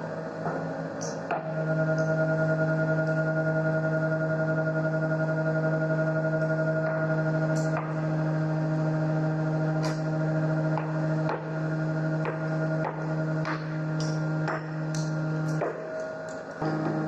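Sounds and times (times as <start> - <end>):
drone of held tones: 0.0 - 17.0.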